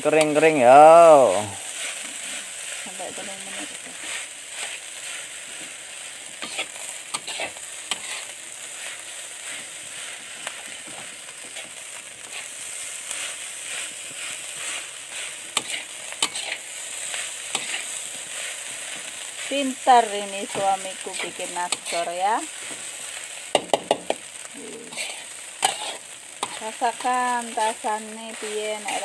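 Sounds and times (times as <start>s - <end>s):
rice sizzling in a wok: 0.0s - 29.0s
metal spatula scraping a wok: 1.6s - 22.9s, 24.7s - 29.0s.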